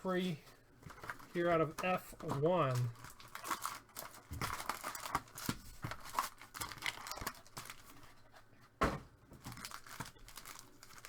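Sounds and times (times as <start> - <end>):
foil wrappers crinkling and tearing: 0.0 - 8.4, 9.4 - 11.0.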